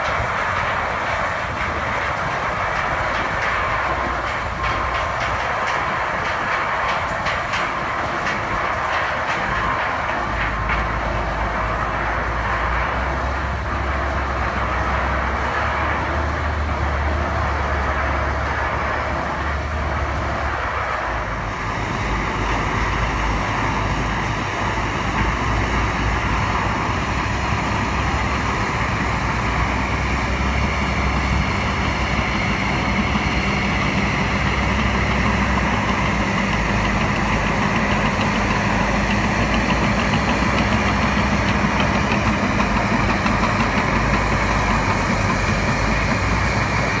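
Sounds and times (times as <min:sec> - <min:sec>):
heavy machinery engine running: 0:00.0 - 0:47.0
rushing noise: 0:00.0 - 0:47.0.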